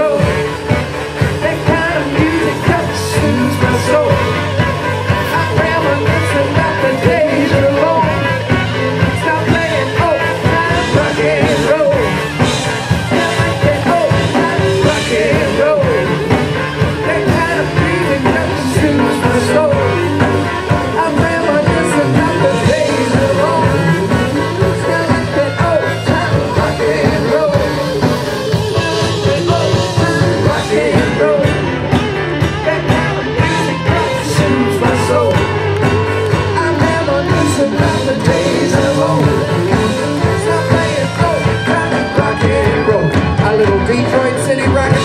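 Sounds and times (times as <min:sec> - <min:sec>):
drum kit: 0:00.0 - 0:45.0
live rock band: 0:00.0 - 0:45.0
person singing: 0:00.0 - 0:45.0.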